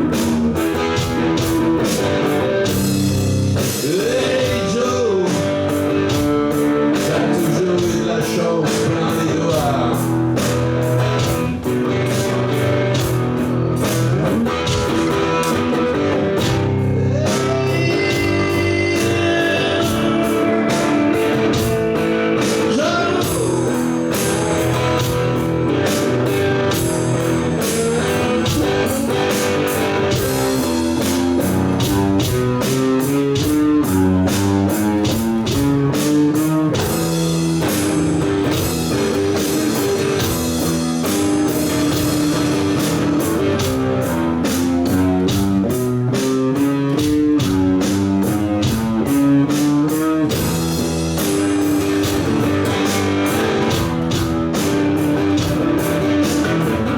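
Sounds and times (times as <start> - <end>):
drum kit beat: 0.0 - 56.9
electric guitar melody: 0.0 - 56.9.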